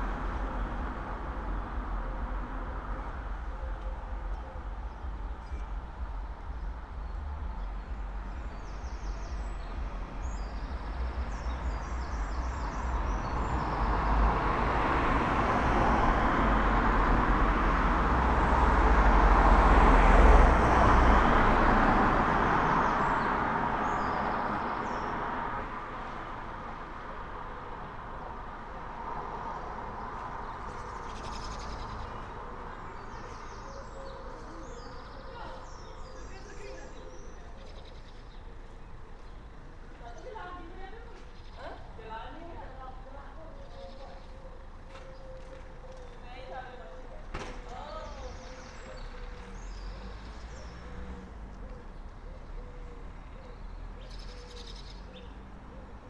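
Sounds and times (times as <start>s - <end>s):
birds chirping: 0.0s - 16.5s, 19.7s - 56.0s
vehicle passing by: 0.0s - 27.0s, 28.0s - 56.0s.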